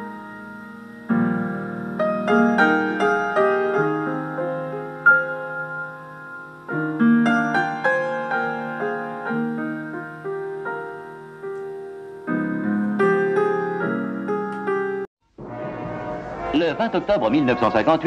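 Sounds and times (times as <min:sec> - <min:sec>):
slow solo piano: 0:00.0 - 0:15.1.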